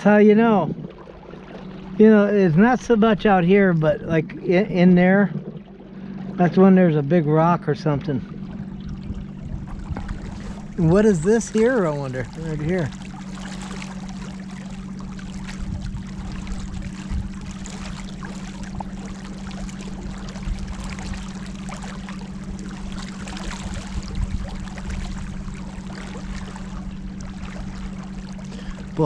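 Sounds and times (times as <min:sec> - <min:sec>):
steady low hum: 0:00.0 - 0:29.0
water lapping against boat: 0:00.0 - 0:29.0.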